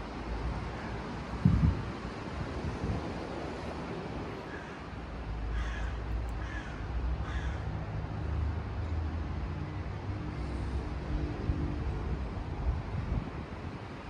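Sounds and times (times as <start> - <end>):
low rumble of wind or traffic: 0.0 - 14.0.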